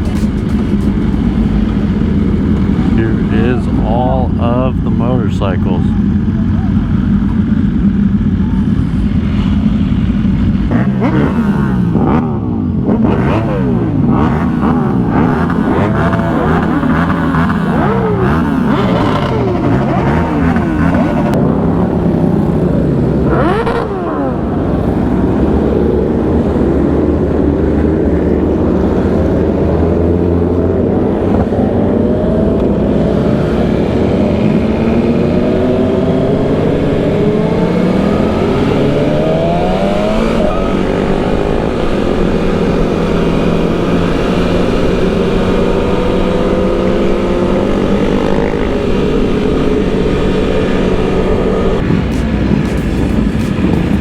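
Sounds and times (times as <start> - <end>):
sport bike engines revving: 0.0 - 54.0.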